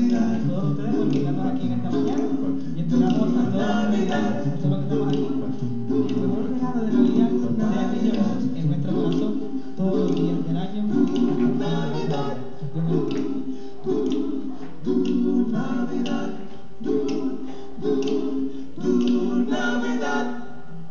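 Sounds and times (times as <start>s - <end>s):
male vocal group singing harmony: 0.0s - 20.9s.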